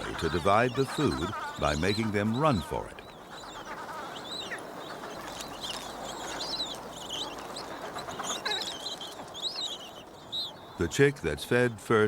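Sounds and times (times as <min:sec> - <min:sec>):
penguin colony babble: 0:00.0 - 0:10.2
penguin chicks peeping: 0:00.0 - 0:10.8.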